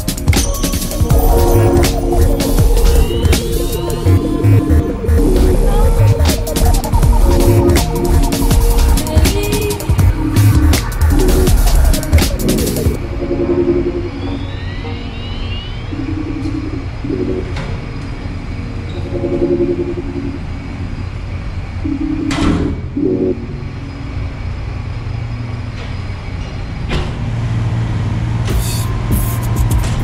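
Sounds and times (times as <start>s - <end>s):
low machinery rumble: 0.0s - 30.0s.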